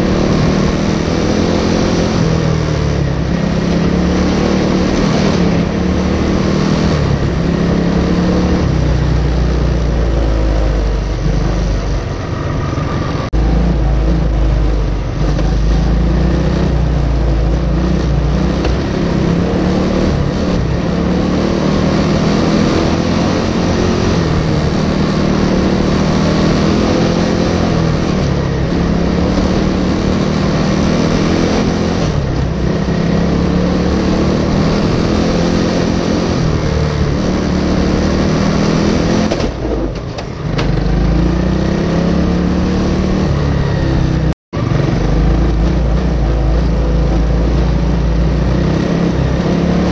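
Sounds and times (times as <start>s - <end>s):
race engine revving: 0.0s - 40.0s, 40.6s - 49.9s.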